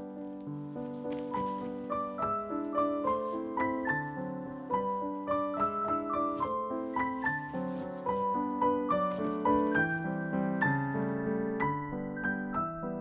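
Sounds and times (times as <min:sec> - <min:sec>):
solo piano music: 0:00.0 - 0:13.0.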